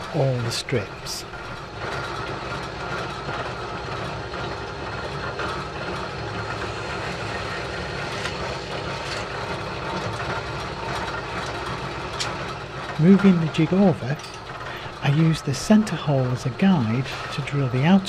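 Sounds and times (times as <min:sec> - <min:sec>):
drill press motor running: 0:00.0 - 0:18.0.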